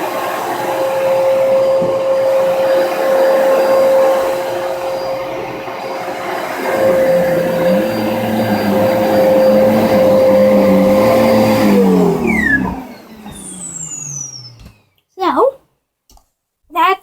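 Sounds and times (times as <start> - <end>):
vacuum cleaner running on carpet: 0.0 - 14.9.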